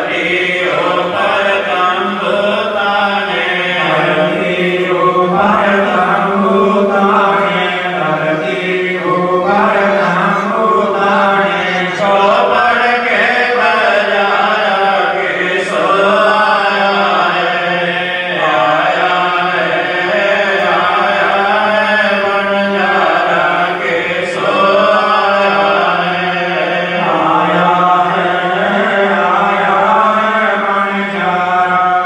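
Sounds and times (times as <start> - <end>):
devotional chanting: 0.0 - 32.0
steady drone: 0.0 - 32.0.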